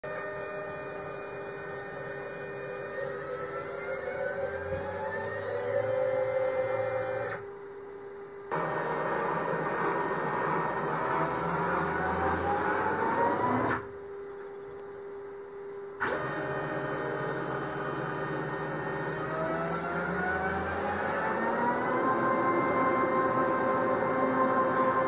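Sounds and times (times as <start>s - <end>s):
motors whining with rising tone: 0.1s - 7.4s, 8.5s - 13.9s, 16.0s - 25.0s.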